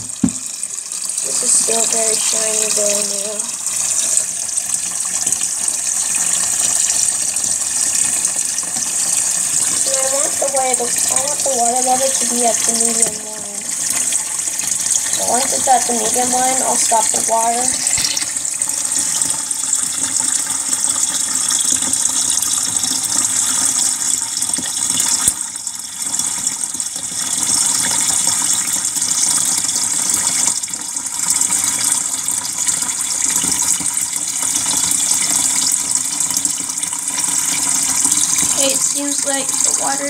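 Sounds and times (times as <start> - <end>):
water pouring into a tub: 0.0 - 40.0.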